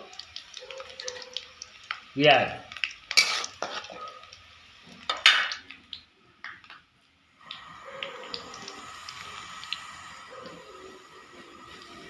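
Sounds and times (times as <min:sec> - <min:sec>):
oil frying sizzle: 0:00.0 - 0:12.0.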